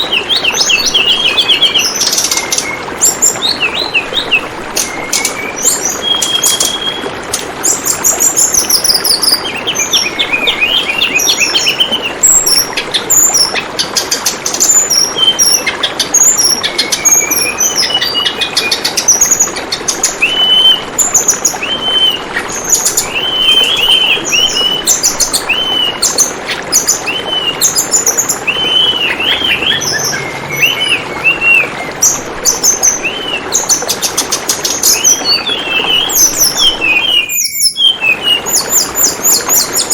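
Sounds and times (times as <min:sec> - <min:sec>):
bird chirps and trills: 0:00.0 - 0:39.9
flowing water murmur: 0:00.0 - 0:39.9.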